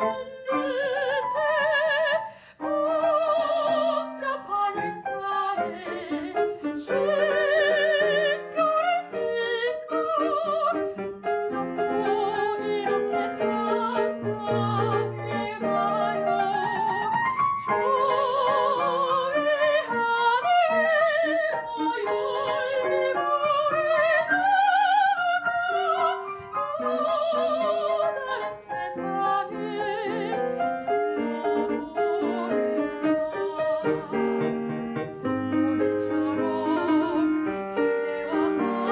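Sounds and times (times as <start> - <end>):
operatic soprano singing: 0.0 - 38.9
piano: 0.0 - 38.9.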